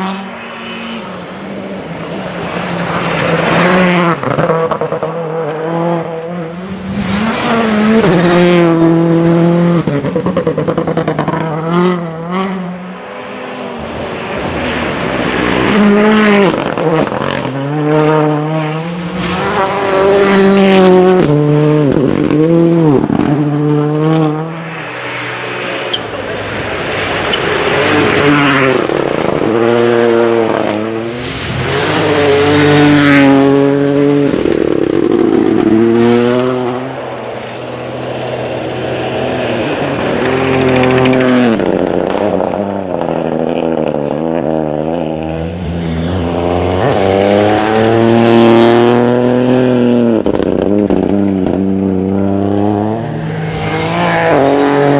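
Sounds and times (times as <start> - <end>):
rally car engines revving past: 0.0 - 54.9.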